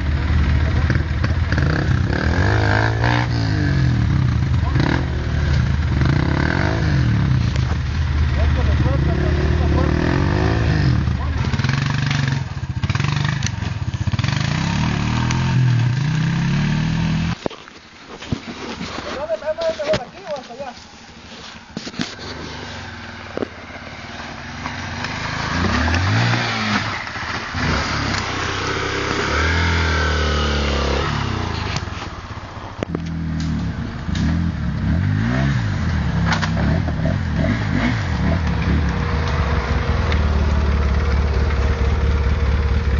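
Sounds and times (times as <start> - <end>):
dirt bike engine revving: 0.0 - 17.4, 22.2 - 32.1, 32.9 - 42.9.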